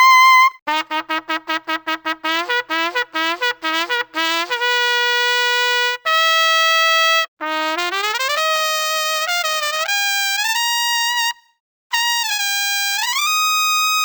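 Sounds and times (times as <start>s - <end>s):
solo trumpet playing: 0.0s - 14.0s.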